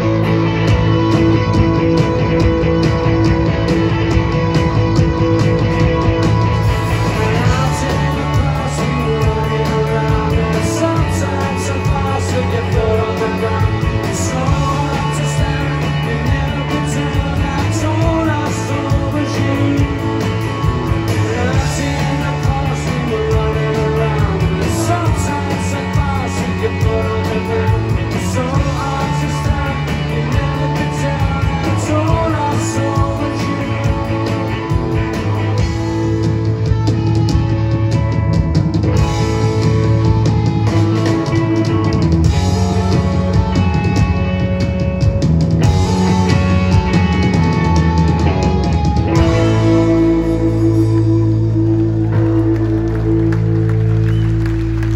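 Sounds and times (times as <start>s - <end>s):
bass guitar notes: 0.0s - 54.9s
live rock band playing: 0.0s - 54.9s.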